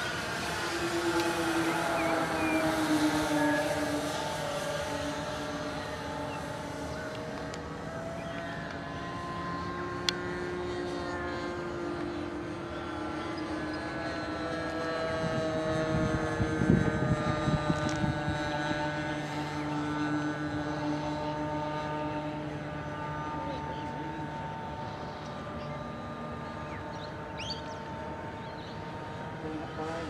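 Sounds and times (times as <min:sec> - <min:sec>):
model plane propellers whining: 0:00.0 - 0:30.0.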